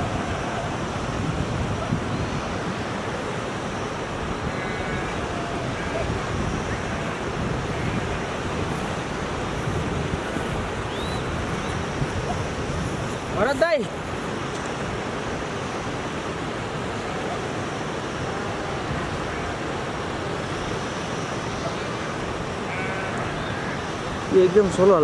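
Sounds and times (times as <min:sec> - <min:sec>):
steady rushing outdoor noise: 0:00.0 - 0:25.0.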